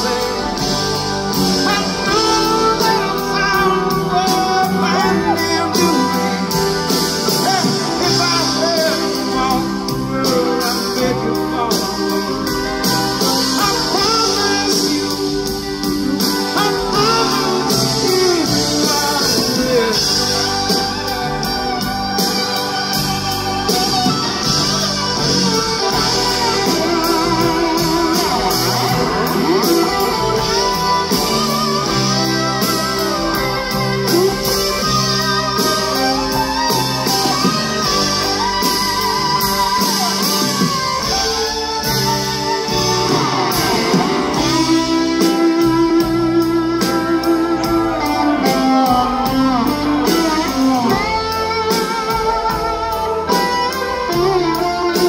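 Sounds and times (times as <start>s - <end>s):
bass guitar: 0.0s - 55.0s
drums: 0.0s - 55.0s
electric guitar lead lines: 0.0s - 55.0s.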